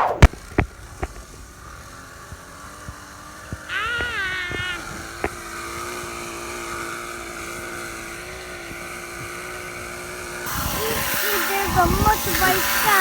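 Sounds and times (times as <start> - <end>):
motorbike engine humming: 0.0 - 13.0.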